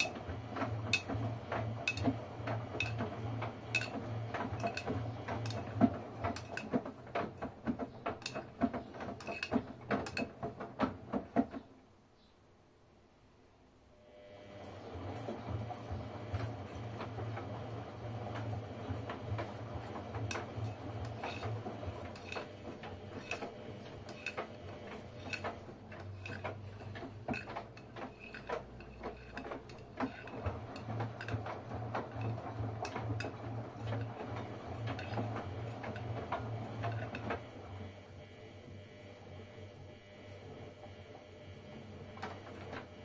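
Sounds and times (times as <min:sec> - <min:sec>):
wet laundry churning: 0:00.0 - 0:11.7, 0:14.5 - 0:43.0
laundry tumbling clicks and knocks: 0:00.0 - 0:11.8, 0:14.9 - 0:38.0
washing machine motors humming: 0:00.0 - 0:12.0, 0:14.0 - 0:43.0.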